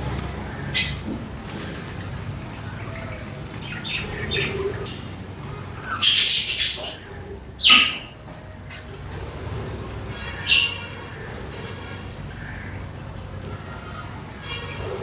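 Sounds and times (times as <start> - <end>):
budgerigars chirping and squawking: 0.5 - 8.2, 10.0 - 15.0.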